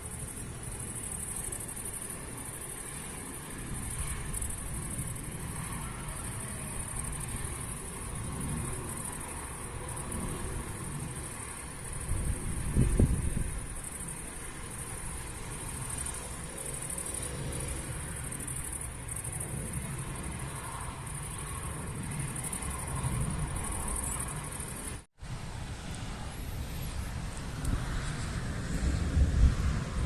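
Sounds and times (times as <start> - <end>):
insect-like chirring: 0.0 - 25.0
wind: 0.0 - 30.0.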